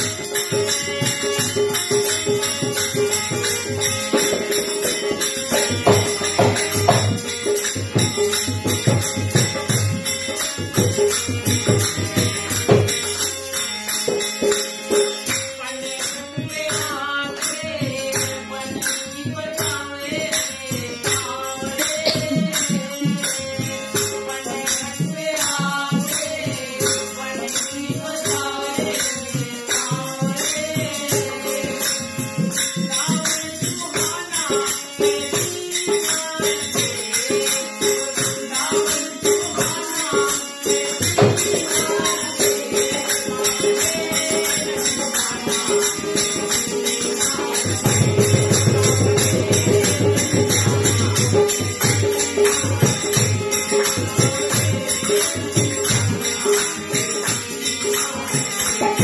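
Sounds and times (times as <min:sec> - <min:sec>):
harmonium melody: 0:00.0 - 0:59.0
jingling hand percussion: 0:00.0 - 0:59.0.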